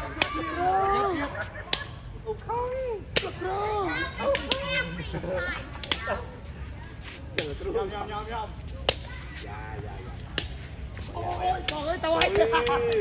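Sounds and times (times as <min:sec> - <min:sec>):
voices calling: 0:00.0 - 0:13.0.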